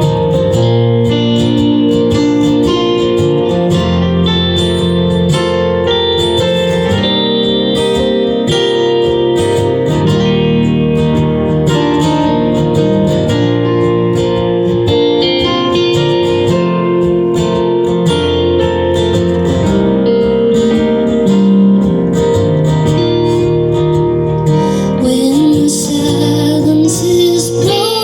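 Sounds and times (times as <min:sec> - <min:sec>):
live band with guitars: 0:00.0 - 0:28.0.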